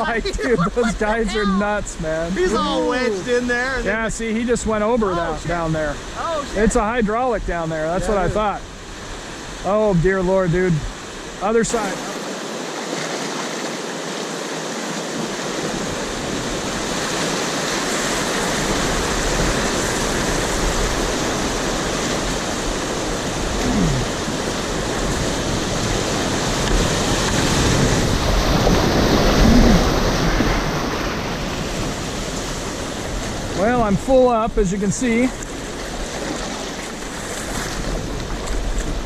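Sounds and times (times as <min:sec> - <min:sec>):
river rapids rushing: 0:00.0 - 0:04.3, 0:05.0 - 0:39.0.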